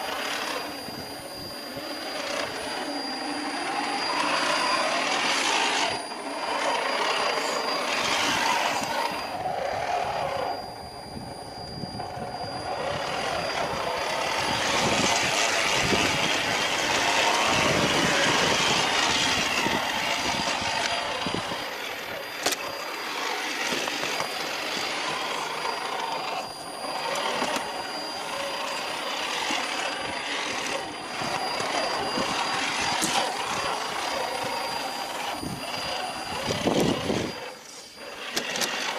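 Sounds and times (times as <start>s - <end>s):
rc car motor whining: 0.0s - 38.9s.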